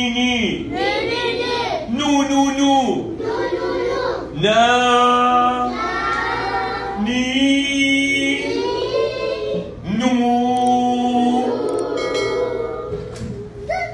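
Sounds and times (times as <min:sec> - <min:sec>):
man and children singing: 0:00.0 - 0:13.2.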